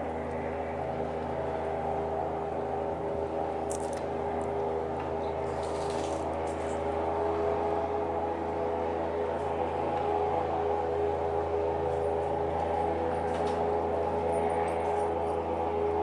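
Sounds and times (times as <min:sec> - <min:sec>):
airboat engine and propeller drone: 0:00.0 - 0:16.0.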